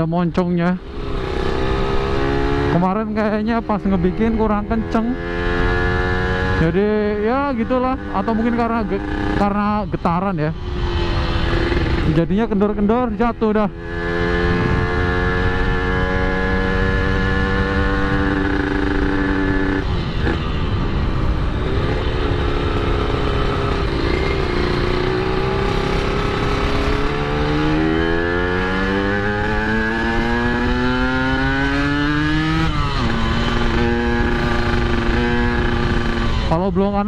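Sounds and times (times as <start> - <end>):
two-stroke motorcycle engine: 0.4 - 10.0, 10.8 - 36.9.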